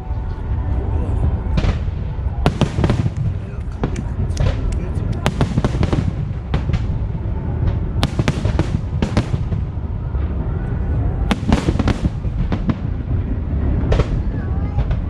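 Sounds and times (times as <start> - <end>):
continuous low rumble: 0.0 - 15.0
fireworks cracks and booms: 1.5 - 15.0.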